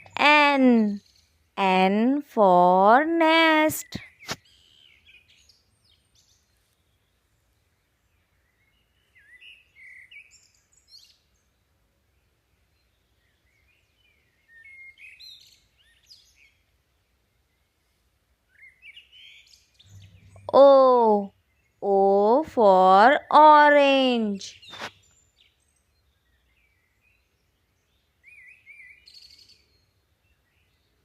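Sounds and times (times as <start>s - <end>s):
faint birds chirping: 0.0s - 31.0s.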